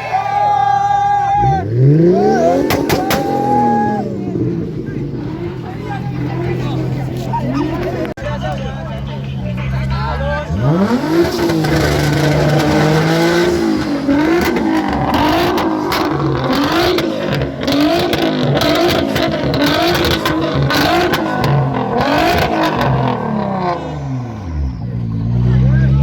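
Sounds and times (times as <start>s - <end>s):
car engine revving: 1.4s - 26.0s.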